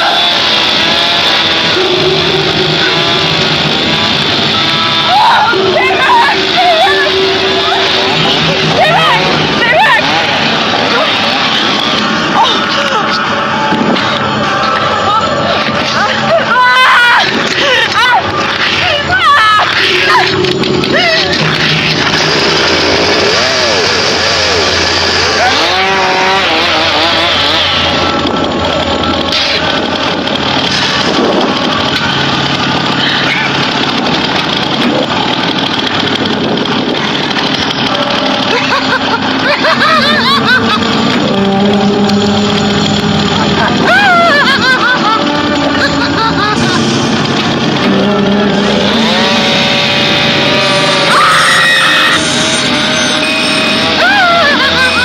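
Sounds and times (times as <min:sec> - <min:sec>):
chainsaw engine running: 0:00.0 - 0:55.0.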